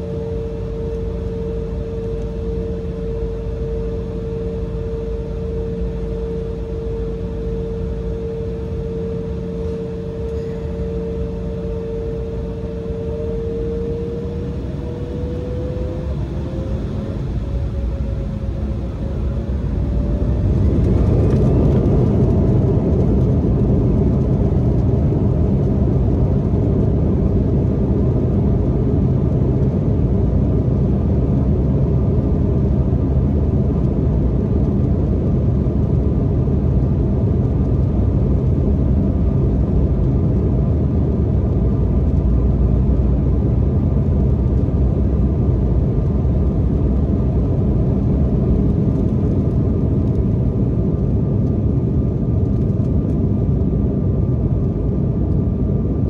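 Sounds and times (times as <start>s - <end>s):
engine and airflow rush: 0.0s - 56.0s.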